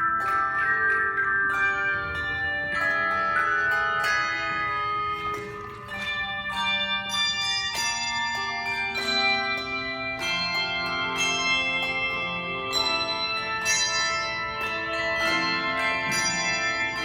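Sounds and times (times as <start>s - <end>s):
handbell choir playing chords: 0.0s - 17.0s.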